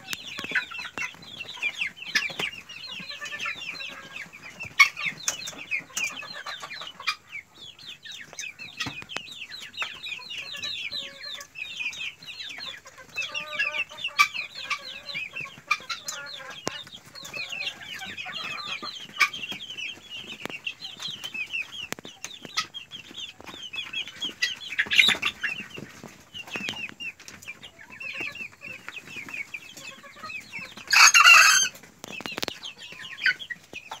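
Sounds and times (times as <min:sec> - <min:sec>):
chickens clucking and cheeping: 0:00.0 - 0:34.0.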